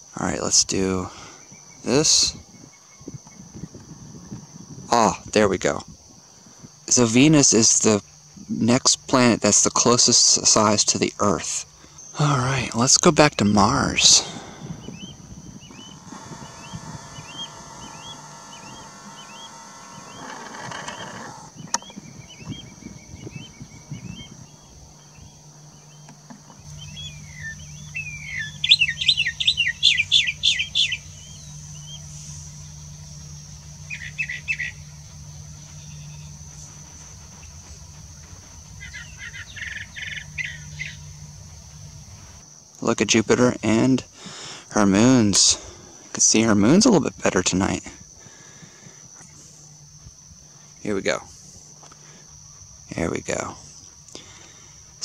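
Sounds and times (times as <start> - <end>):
birds singing: 0.0 - 55.0
high insect trill: 0.0 - 55.0.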